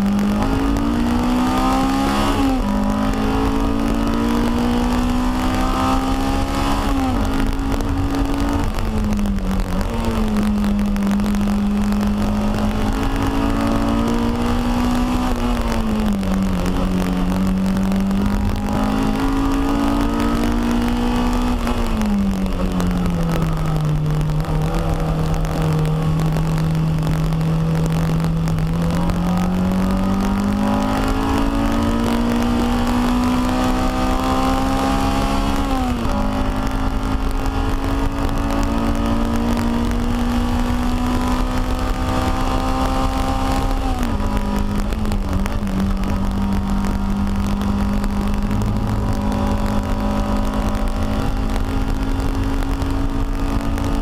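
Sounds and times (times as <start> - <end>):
car engine revving: 0.0 - 54.0
road and wind rumble: 0.0 - 54.0.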